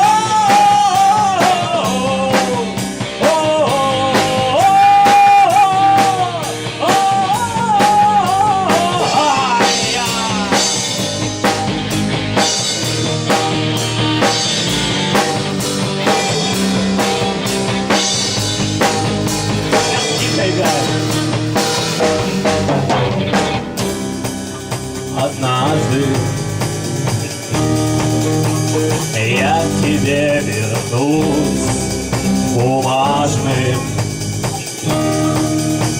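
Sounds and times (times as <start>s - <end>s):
drum kit beat: 0.0s - 35.9s
rock band playing: 0.0s - 35.9s.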